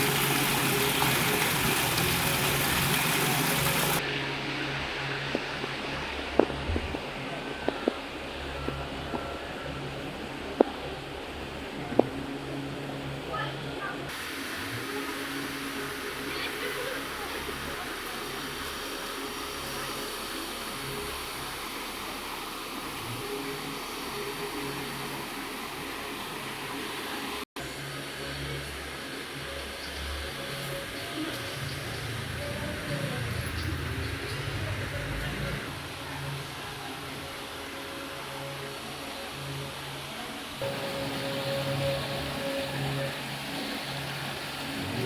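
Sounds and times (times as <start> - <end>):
road and wind hiss: 0.0 - 45.0.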